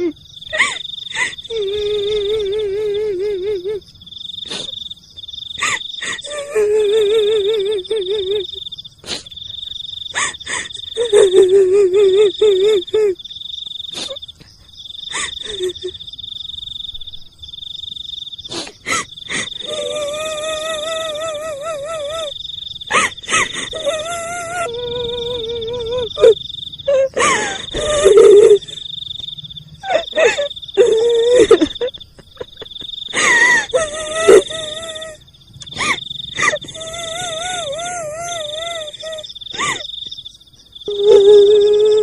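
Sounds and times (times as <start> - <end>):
high pulsing insect-like trill: 0.0 - 42.0.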